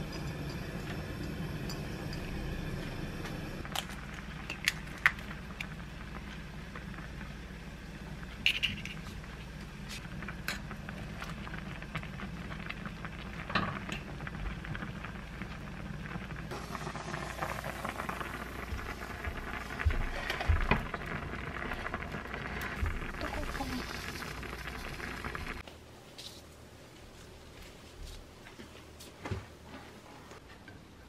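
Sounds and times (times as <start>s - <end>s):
soup boiling in a pot: 0.0s - 25.6s.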